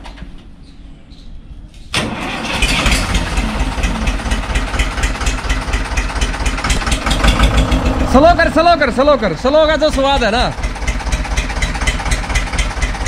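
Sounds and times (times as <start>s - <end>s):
tractor diesel engine running: 2.0s - 13.0s.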